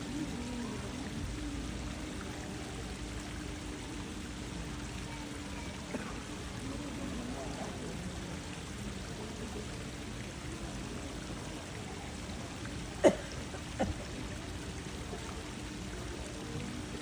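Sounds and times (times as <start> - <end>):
rushing water noise: 0.0 - 17.0.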